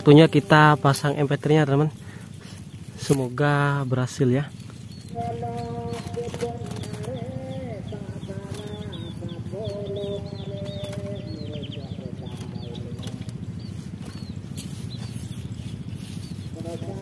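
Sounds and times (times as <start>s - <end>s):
rapid high bird chirps: 0.0s - 17.0s
steady low buzz: 0.0s - 17.0s.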